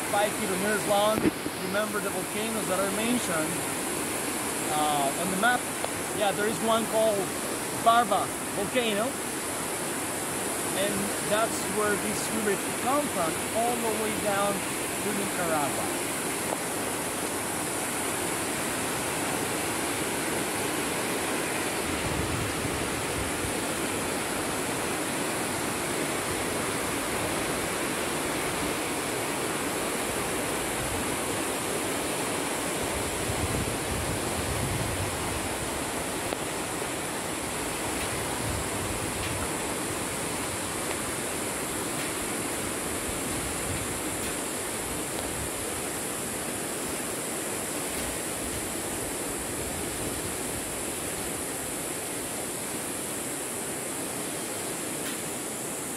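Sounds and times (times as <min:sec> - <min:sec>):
river rushing: 0:00.0 - 0:55.9.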